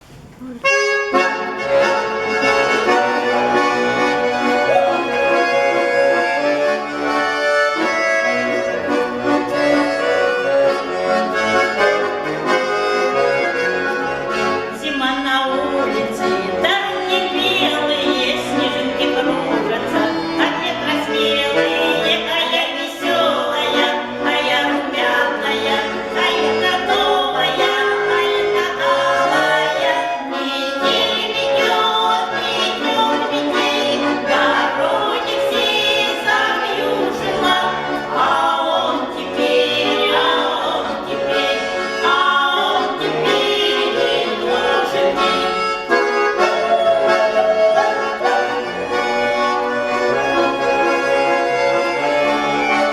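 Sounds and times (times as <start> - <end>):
accordion playing: 0.4 - 52.9.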